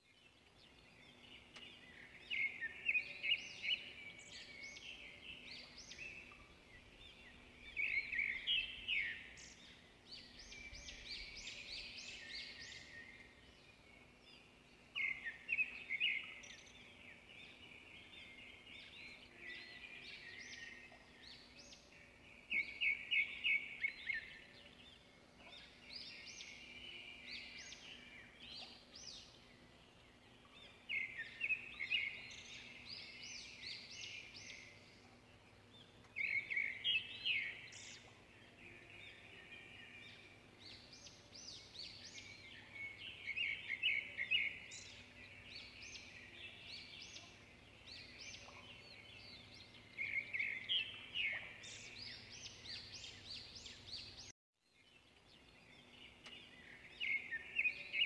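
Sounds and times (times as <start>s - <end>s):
birds chirping and singing: 0.0s - 58.0s.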